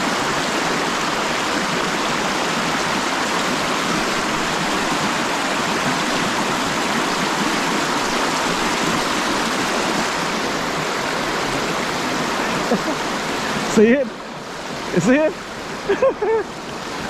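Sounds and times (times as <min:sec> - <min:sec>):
river water rushing over rocks: 0:00.0 - 0:17.0.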